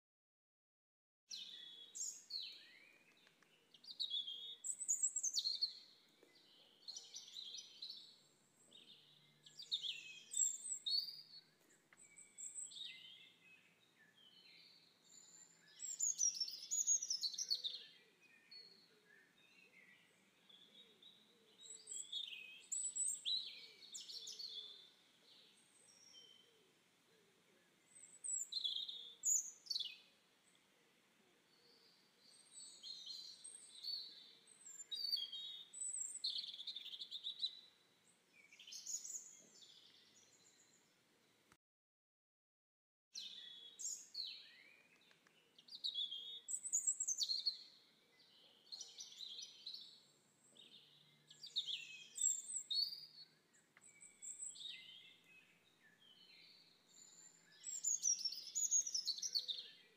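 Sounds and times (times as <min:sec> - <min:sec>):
birds singing and chirping: 0:01.3 - 0:26.6, 0:27.6 - 0:30.6, 0:31.4 - 0:40.9, 0:43.2 - 0:59.9.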